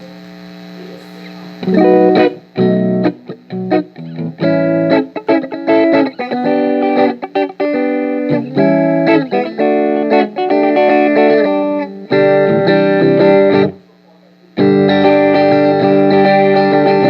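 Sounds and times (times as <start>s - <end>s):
electric guitar chords: 0.8s - 13.9s, 14.5s - 17.0s.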